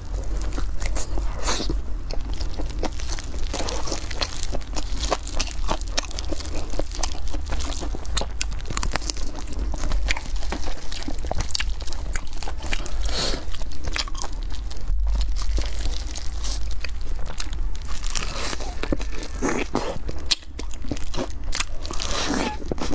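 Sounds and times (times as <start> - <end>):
crunching fried chicken: 0.0 - 22.9.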